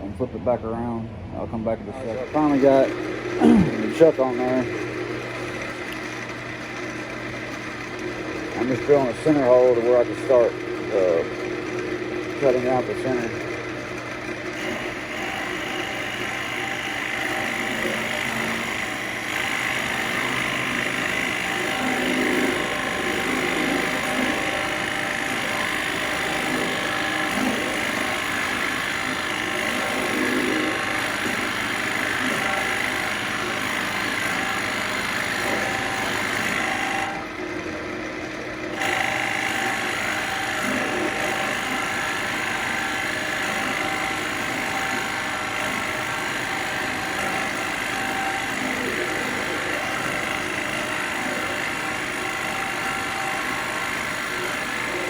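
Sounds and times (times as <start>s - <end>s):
lathe motor hum: 0.0s - 55.0s
cutter working into wood: 1.9s - 55.0s.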